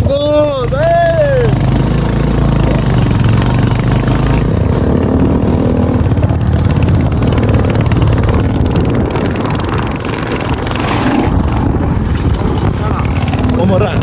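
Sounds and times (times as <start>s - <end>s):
motorcycle engine running: 0.0s - 14.0s
rushing noise: 1.8s - 14.0s.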